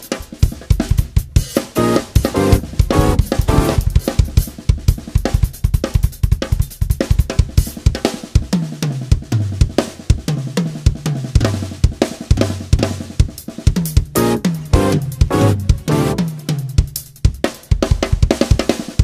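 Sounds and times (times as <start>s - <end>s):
drum kit played fast: 0.0s - 19.0s.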